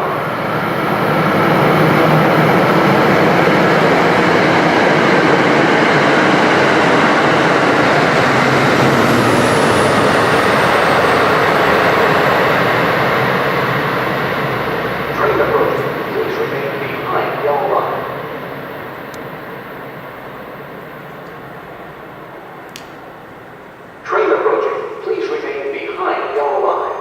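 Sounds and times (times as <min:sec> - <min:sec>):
train passing at speed: 0:00.0 - 0:27.0
wheels rushing on rail: 0:00.0 - 0:27.0.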